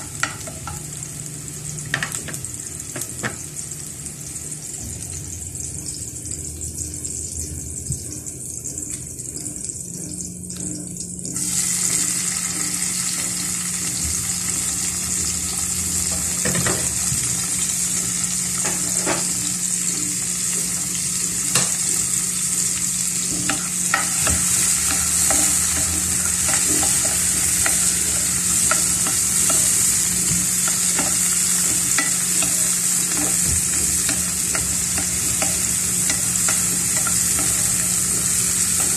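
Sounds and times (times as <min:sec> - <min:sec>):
onions frying in a pan: 0:00.0 - 0:38.9.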